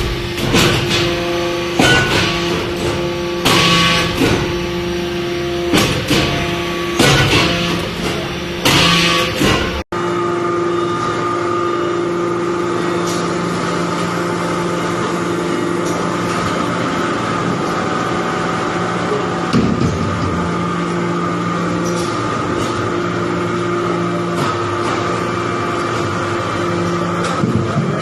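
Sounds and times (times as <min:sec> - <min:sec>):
baler machine humming: 0:00.0 - 0:28.0.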